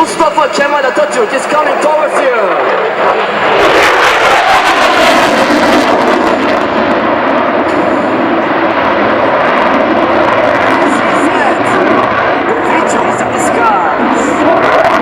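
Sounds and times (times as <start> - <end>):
fighter jet engine roaring: 0.0 - 15.0.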